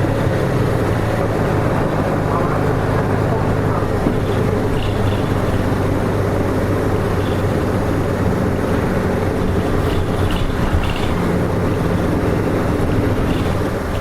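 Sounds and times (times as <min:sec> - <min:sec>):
bus diesel engine running: 0:00.0 - 0:14.0
road noise: 0:00.0 - 0:14.0.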